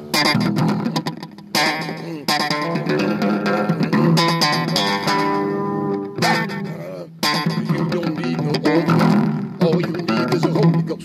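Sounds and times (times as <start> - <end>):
electric bass guitar notes: 0.0 - 11.0.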